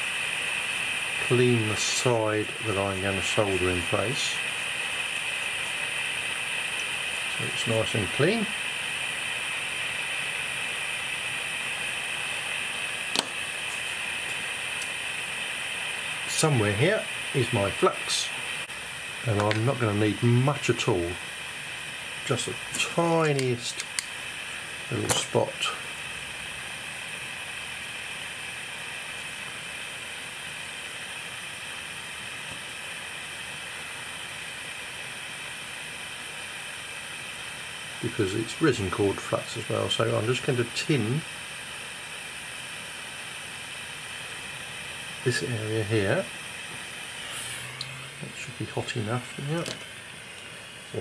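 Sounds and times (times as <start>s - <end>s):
background hiss: 0.0s - 51.0s.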